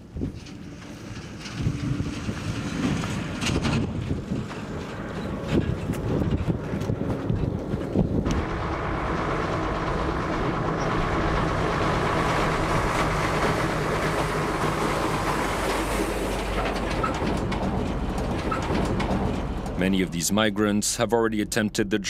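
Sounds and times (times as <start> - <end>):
gusty rumbling: 0.0 - 21.9
heavy trucks driving past: 0.0 - 22.0.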